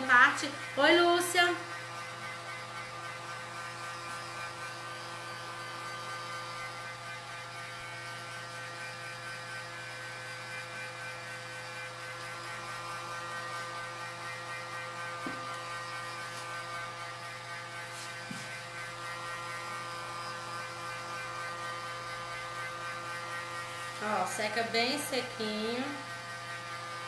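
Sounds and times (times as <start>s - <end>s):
heat gun running: 0.0s - 27.0s.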